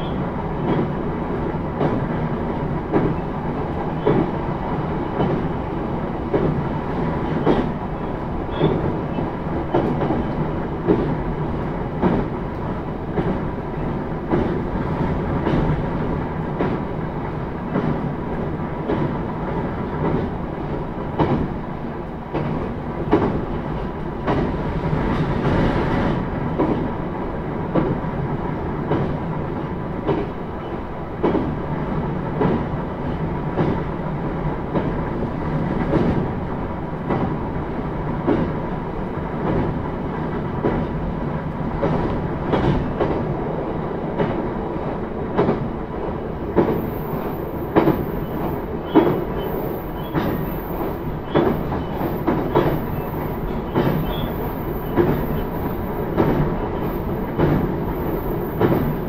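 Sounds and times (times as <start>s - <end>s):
rail joint clacks: 0.0s - 5.6s, 6.2s - 21.5s, 22.3s - 27.0s, 28.8s - 31.6s, 34.6s - 36.4s, 37.0s - 59.0s
train wheels rumbling on rails: 0.0s - 59.0s.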